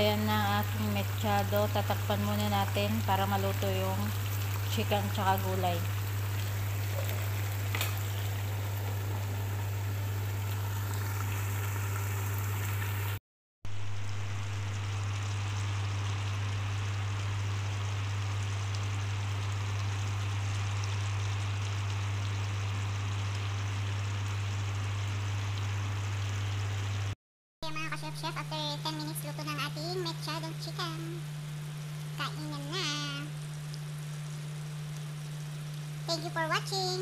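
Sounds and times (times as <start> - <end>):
stew bubbling in a pan: 0.0 - 27.1, 27.7 - 37.0.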